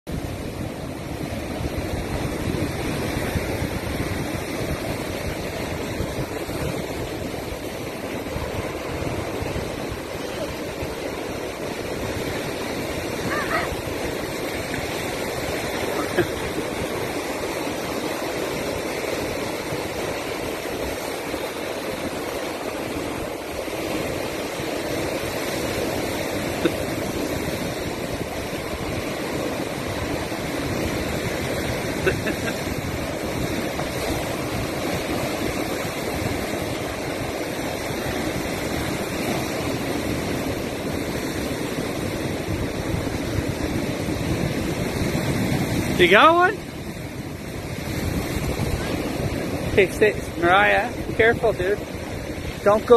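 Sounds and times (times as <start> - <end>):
surf breaking over rocks: 0.1 - 52.9.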